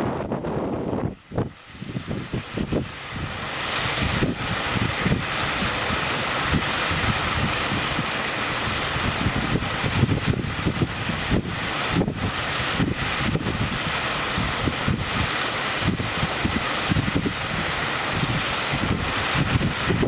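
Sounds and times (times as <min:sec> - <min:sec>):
wind buffeting microphone: 0:00.0 - 0:20.0
water jets rushing and splashing: 0:00.2 - 0:20.0.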